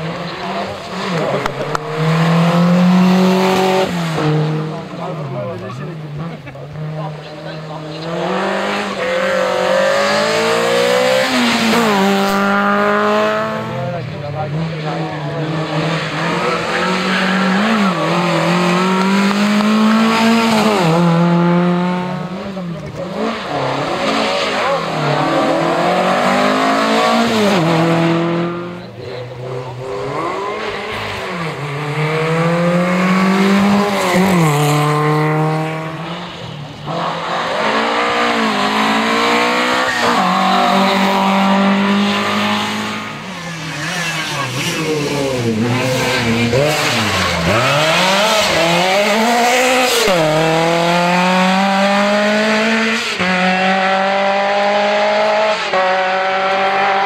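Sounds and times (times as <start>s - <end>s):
rally car engines revving past: 0.0s - 57.0s.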